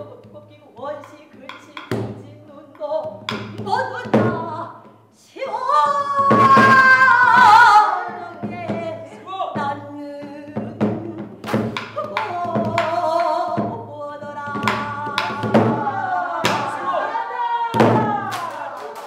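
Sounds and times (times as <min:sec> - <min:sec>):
woman singing long sliding notes: 0:00.0 - 0:18.5.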